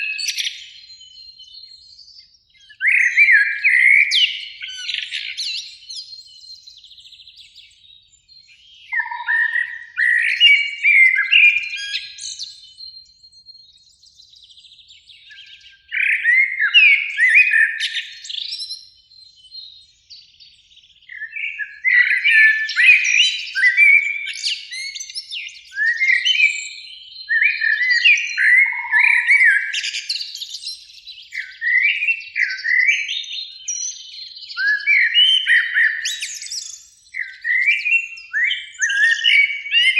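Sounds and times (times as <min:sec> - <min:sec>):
blackbirds warbling: 0:00.0 - 0:39.9.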